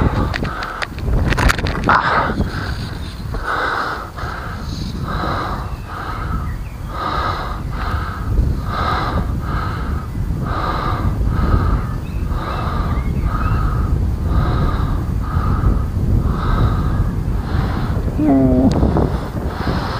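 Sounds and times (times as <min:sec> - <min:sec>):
person breathing hard: 0:01.9 - 0:19.9.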